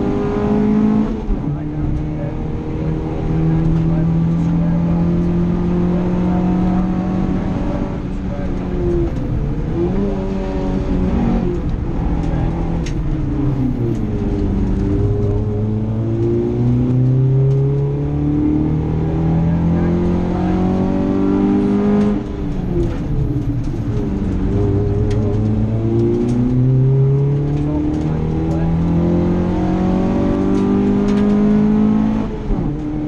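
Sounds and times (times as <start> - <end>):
rally car engine from inside cabin: 0.0 - 33.0.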